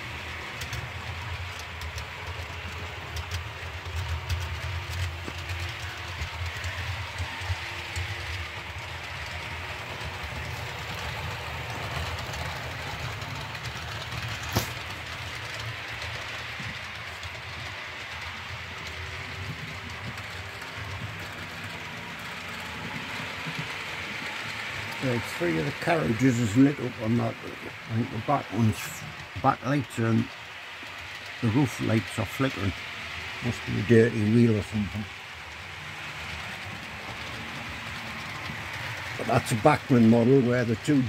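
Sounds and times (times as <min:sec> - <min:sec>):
model train wheels rumbling on track: 0:00.0 - 0:41.0.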